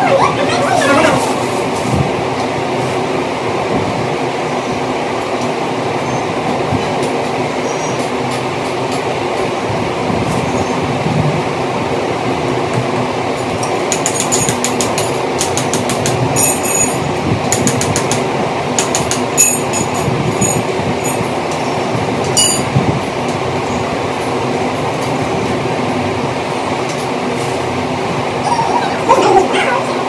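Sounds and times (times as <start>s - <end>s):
loud steady rumbling: 0.0s - 30.0s.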